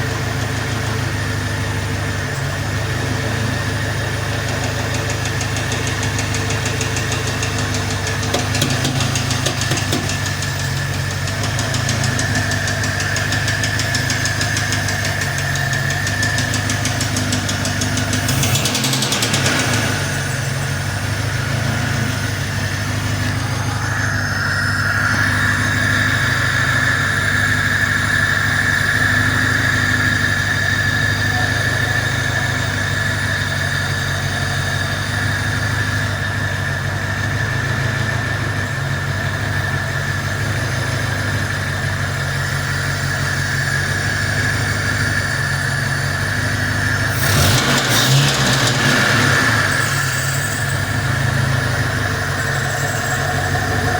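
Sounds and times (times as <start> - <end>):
car engine idling: 0.0 - 53.9
steady high whine: 7.6 - 53.9.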